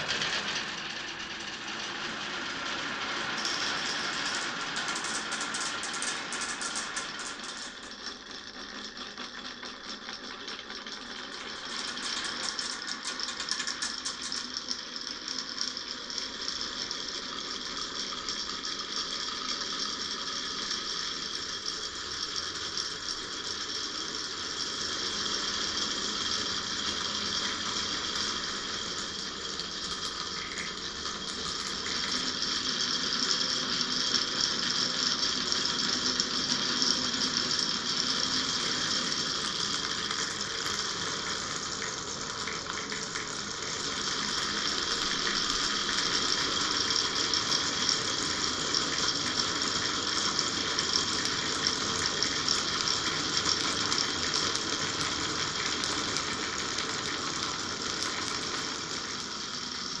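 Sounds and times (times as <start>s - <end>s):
marbles rattling down tracks: 0.0s - 60.0s.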